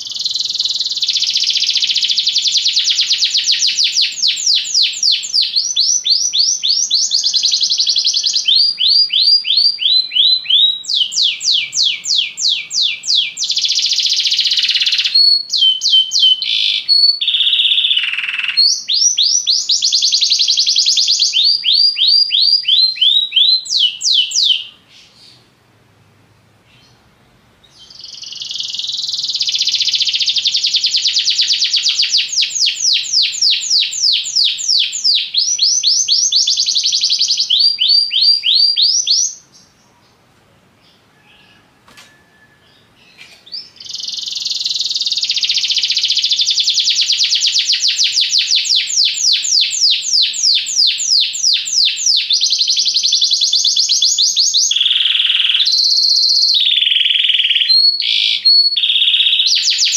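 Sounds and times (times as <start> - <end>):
canary singing trills: 0.0 - 25.5, 27.6 - 59.9.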